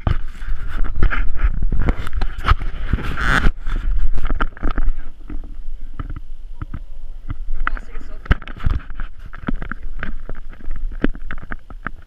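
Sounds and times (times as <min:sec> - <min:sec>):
microphone handling clicks and rustles: 0:00.0 - 0:12.0
wind on microphone: 0:00.0 - 0:12.0.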